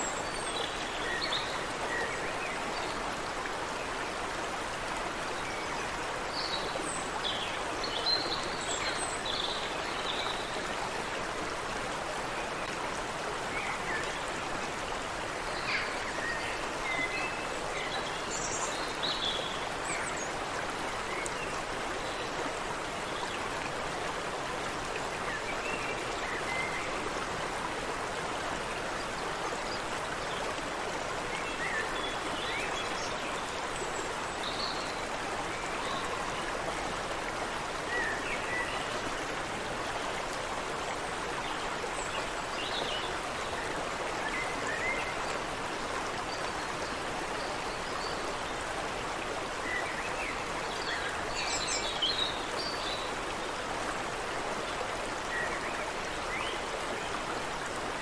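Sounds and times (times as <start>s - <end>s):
water running over rocks: 0.0s - 58.0s.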